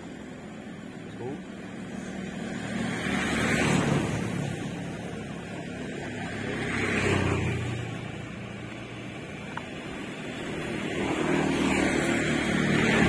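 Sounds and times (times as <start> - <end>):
passing vehicle engine: 0.0 - 13.0.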